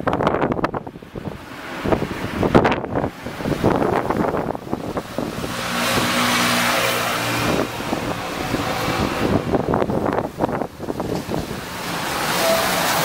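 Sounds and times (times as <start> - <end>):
wind on microphone: 0.0 - 13.0
car driving past: 1.2 - 13.0.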